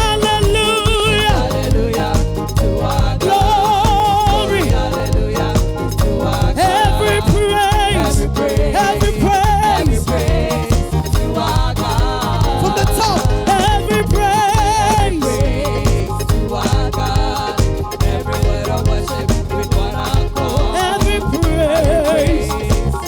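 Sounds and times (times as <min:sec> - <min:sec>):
gospel band music: 0:00.0 - 0:23.0
person singing with vibrato: 0:00.0 - 0:23.0.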